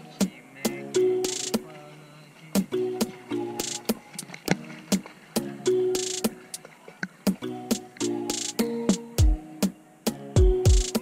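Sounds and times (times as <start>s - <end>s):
background music with steady beat: 0.0s - 1.8s, 2.5s - 11.0s.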